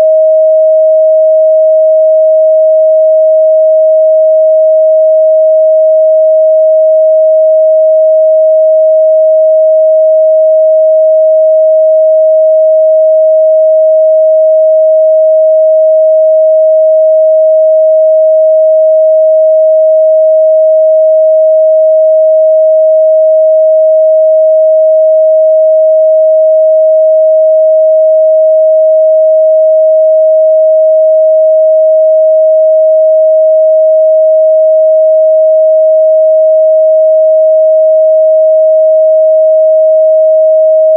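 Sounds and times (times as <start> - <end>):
steady sine wave test tone: 0.0 - 40.9.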